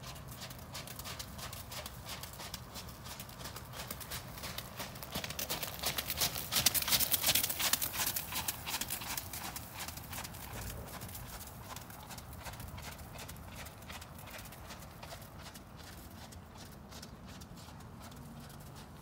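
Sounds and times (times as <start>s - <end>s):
horse hoofbeats on wet footing: 0.0s - 19.0s.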